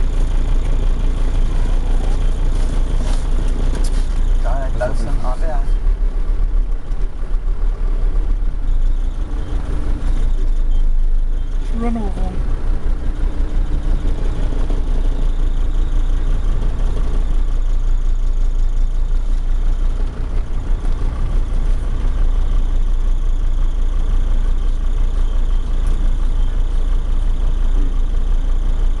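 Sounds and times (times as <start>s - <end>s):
vehicle engines rumbling: 0.0s - 29.0s.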